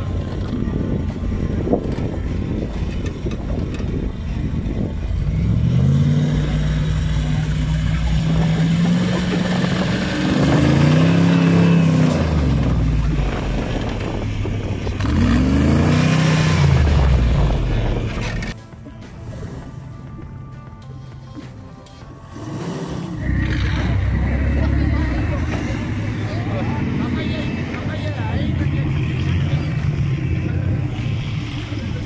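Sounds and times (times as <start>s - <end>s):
buggy engine revving: 0.0s - 18.6s, 22.2s - 32.0s.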